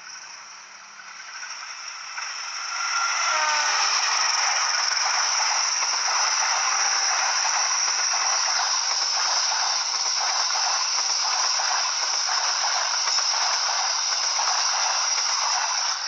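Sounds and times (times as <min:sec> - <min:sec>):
train passing with wheel rattle: 0:00.0 - 0:16.0.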